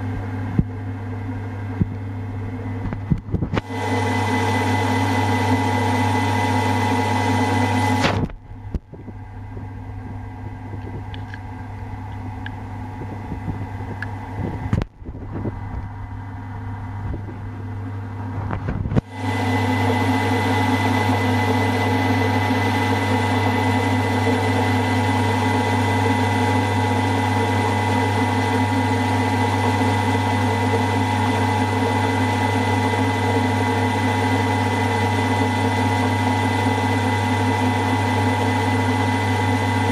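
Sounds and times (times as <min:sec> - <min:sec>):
milling machine humming: 0:00.0 - 0:39.9.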